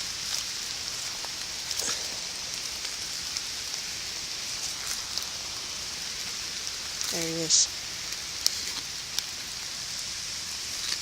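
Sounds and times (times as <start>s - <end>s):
steady rain hissing: 0.0s - 11.0s.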